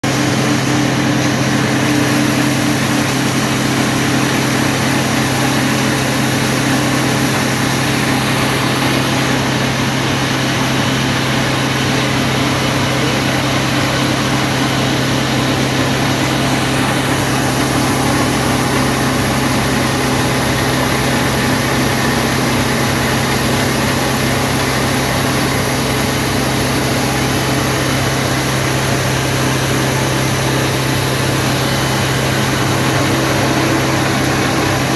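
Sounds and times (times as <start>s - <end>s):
grain cleaning machine humming: 0.0s - 34.9s.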